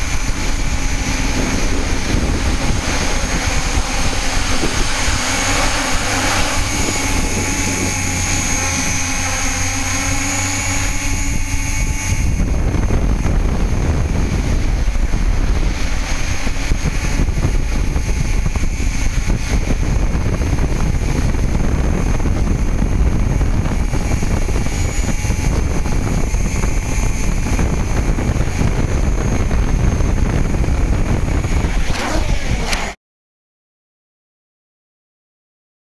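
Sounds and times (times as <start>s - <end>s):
drone propellers whirring: 0.0s - 33.0s.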